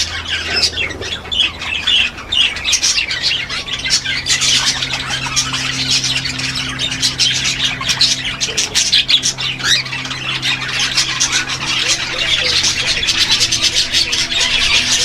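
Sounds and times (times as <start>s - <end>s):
parrots squawking and chattering: 0.0s - 15.0s
steady low hum: 0.0s - 15.0s.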